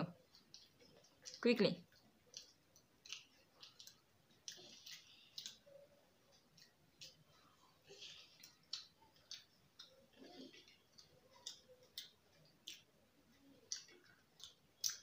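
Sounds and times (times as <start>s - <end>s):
chewing: 0.1s - 15.0s
soft clicks of eating: 0.1s - 15.0s.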